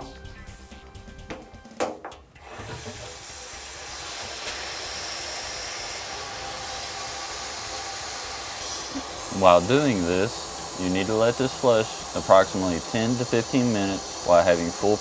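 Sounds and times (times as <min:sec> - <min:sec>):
water rushing through hose: 0:02.5 - 0:15.0.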